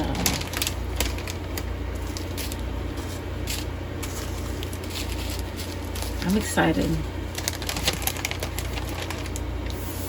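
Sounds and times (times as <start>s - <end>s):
plastic packaging crinkling: 0.0s - 10.0s
steady low hum: 0.0s - 10.0s.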